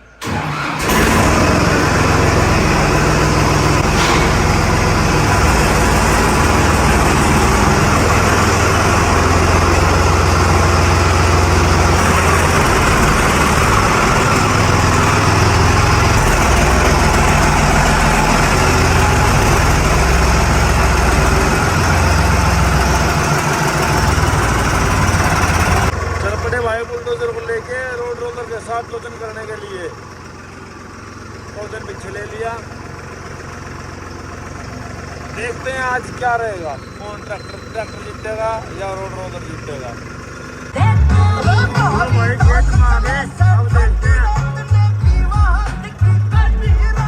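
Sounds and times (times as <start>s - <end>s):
tractor diesel engine droning: 0.0s - 47.0s.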